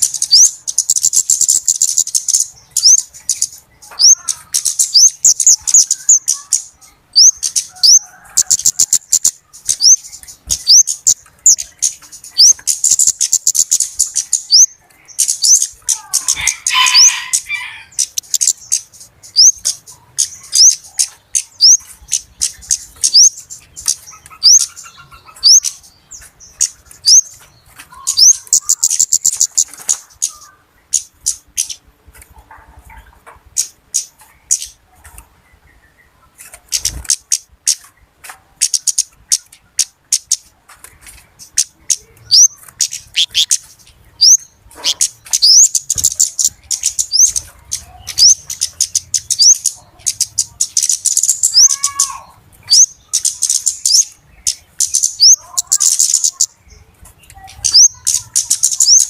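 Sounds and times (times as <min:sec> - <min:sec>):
birds calling with sharp ticks: 0:00.0 - 0:59.0.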